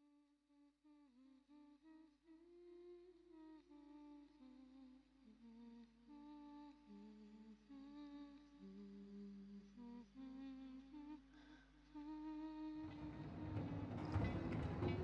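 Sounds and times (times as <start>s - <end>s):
faint wordless humming: 0.9s - 15.0s.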